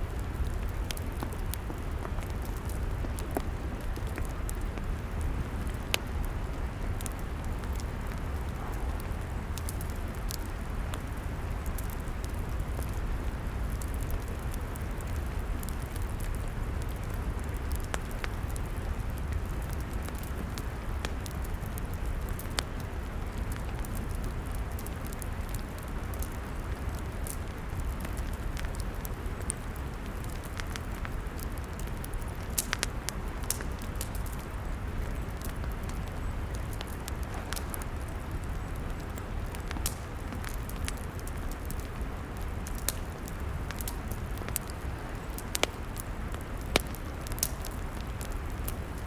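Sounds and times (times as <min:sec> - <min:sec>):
log fire crackling: 0:00.0 - 0:49.0.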